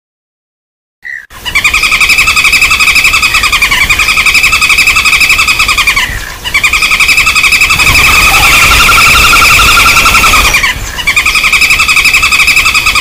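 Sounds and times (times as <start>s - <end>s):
woodpecker rattling trill: 1.5s - 13.0s.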